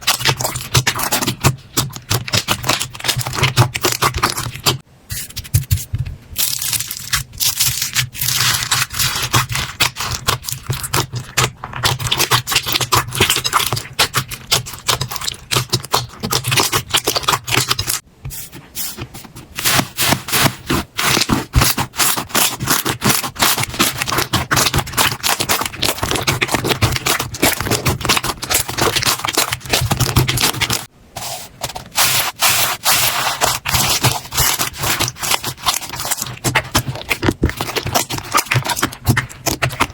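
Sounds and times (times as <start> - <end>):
slime crackling and popping: 0.0 - 4.8, 6.4 - 18.0, 21.0 - 30.9, 32.0 - 39.9.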